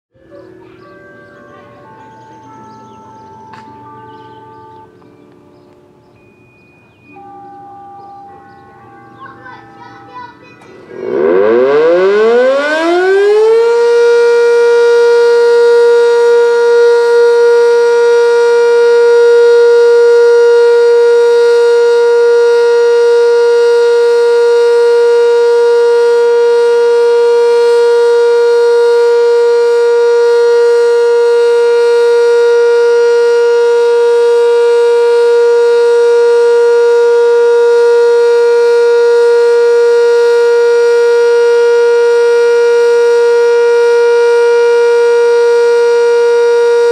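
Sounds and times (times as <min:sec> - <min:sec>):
warning siren steady tone: 0:00.1 - 0:09.4, 0:10.8 - 0:46.9.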